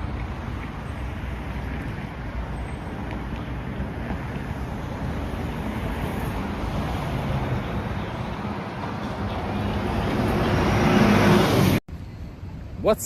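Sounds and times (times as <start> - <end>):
vehicle approaching: 0.0 - 11.8
road traffic noise: 0.0 - 13.0.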